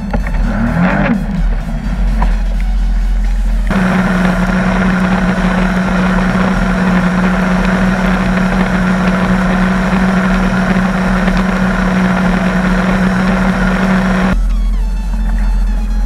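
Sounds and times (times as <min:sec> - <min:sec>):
jet ski engine humming: 0:00.0 - 0:16.0.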